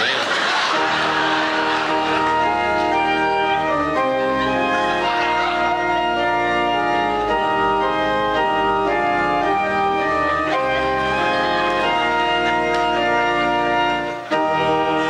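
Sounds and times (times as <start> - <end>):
organ playing slow hymn: 0.1 - 15.0.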